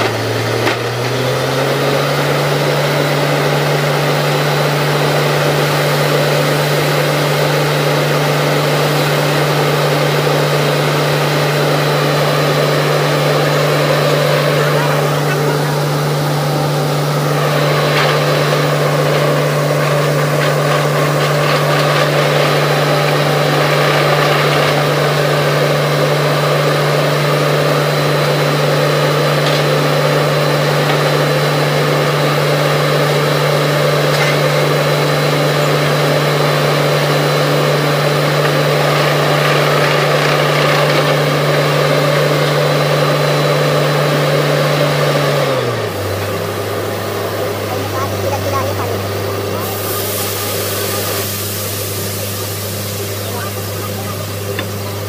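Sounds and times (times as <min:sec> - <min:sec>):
diesel engine running at high speed: 0:00.0 - 0:55.0.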